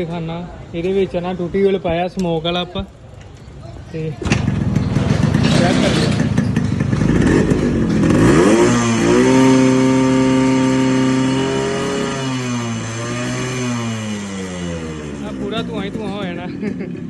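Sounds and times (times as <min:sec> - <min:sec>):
two-stroke engine revving: 0:02.4 - 0:17.0.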